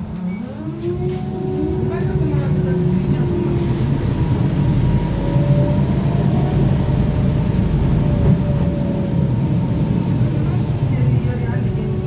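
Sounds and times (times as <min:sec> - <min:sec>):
low rumble of bus ride: 0:00.0 - 0:12.0.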